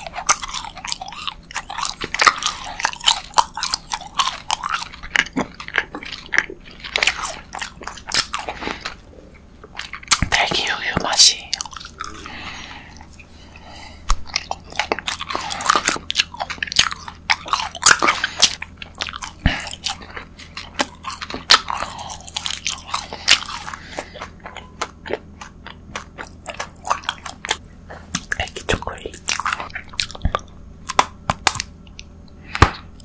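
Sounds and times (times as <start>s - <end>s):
person chewing crunchy sweets: 0.0s - 33.0s.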